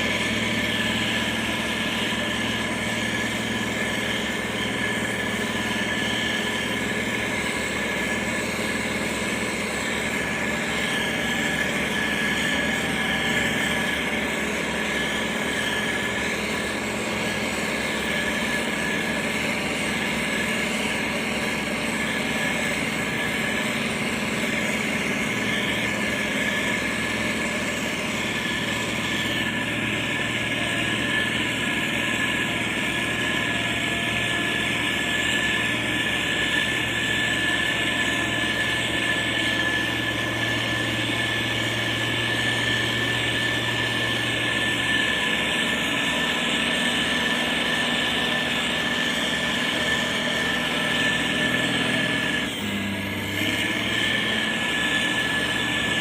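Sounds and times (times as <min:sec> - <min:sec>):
diesel engine running: 0:00.0 - 0:56.0
high whine: 0:00.0 - 0:56.0.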